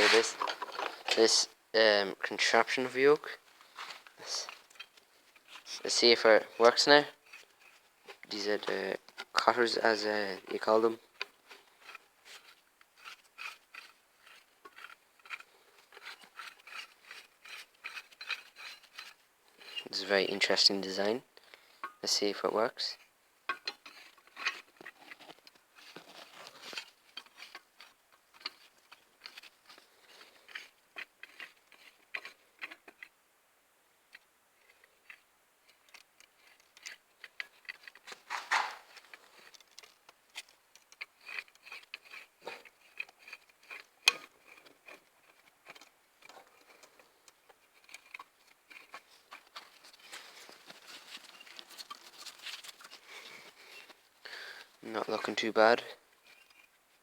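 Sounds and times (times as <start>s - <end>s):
rustling clatter: 0.0s - 1.4s, 3.5s - 20.7s, 23.5s - 33.1s, 34.6s - 57.0s.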